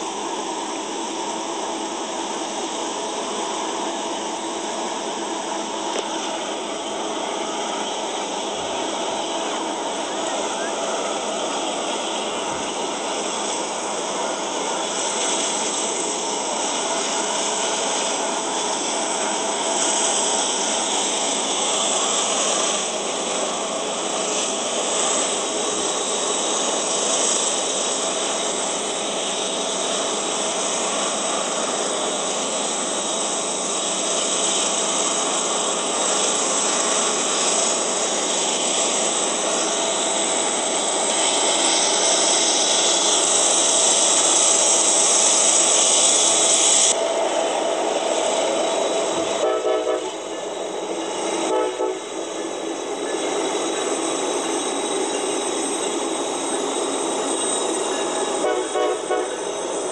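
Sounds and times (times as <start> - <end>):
diesel locomotive drone: 0.0 - 59.9.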